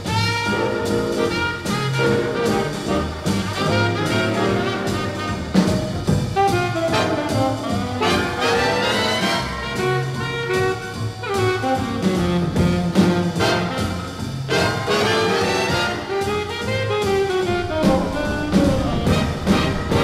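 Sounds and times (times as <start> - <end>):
jazz music with brass: 0.0 - 20.0.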